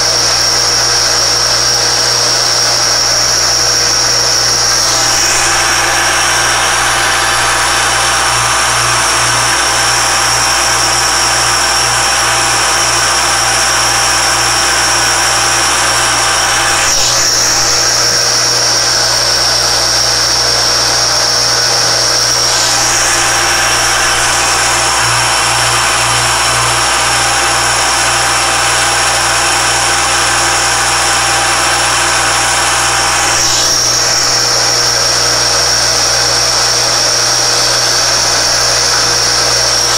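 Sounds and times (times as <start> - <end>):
cutter spindle high-pitched whine: 0.0 - 39.9.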